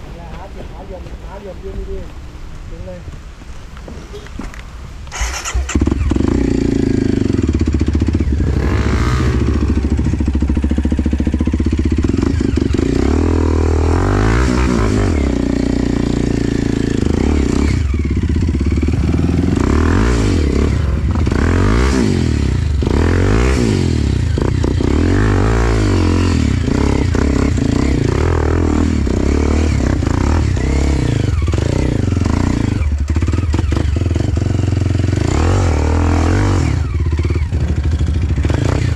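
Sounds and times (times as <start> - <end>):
dirt bike engine revving: 5.1 - 38.9.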